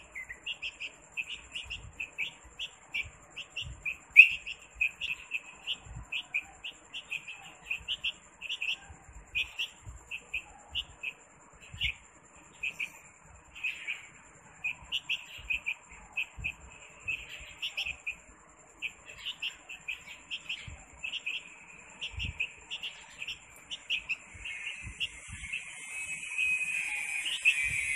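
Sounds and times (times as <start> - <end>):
bird chick chirping: 0.0 - 27.9.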